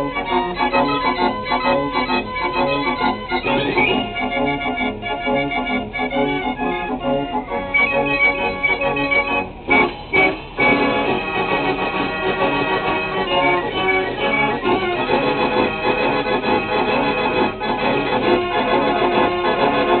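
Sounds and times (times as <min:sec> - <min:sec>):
fair organ playing a tune: 0:00.0 - 0:20.0.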